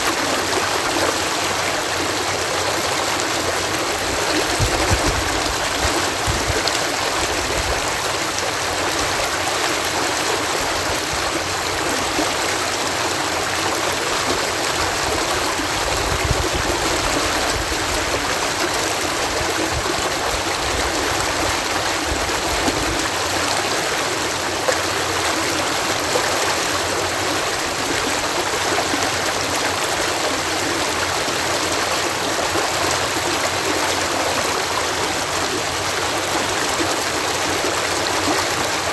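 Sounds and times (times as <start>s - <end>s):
water rushing over canal lock: 0.0s - 38.9s.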